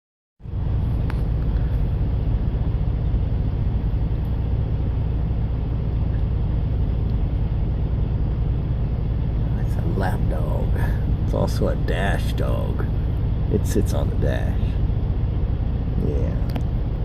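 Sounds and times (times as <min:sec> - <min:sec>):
truck engine drone inside cab: 0:00.4 - 0:17.0.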